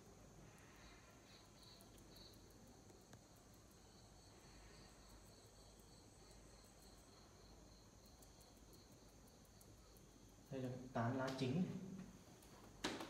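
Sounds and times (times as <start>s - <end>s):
faint high chirping: 0.0s - 10.8s.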